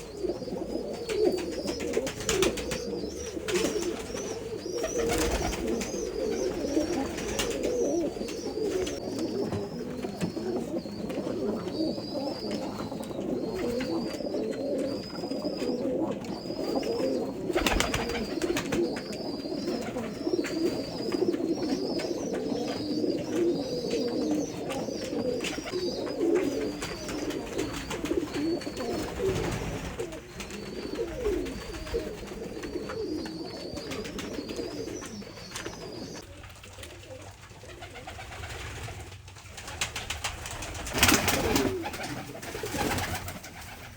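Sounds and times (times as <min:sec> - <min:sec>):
pigeons cooing: 0:00.0 - 0:43.9.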